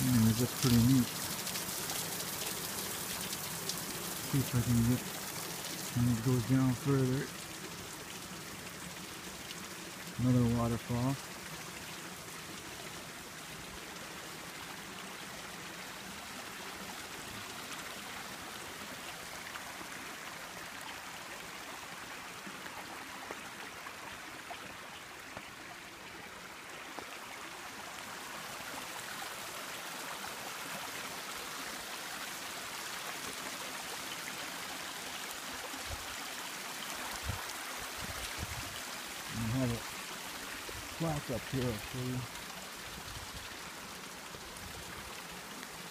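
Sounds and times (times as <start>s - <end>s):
waterfall rushing and splashing: 0.0s - 45.9s.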